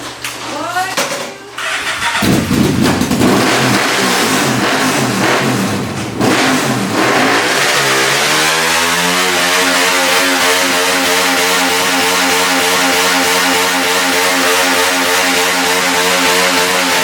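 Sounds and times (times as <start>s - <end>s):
motorcycle engine revving: 1.6s - 17.0s.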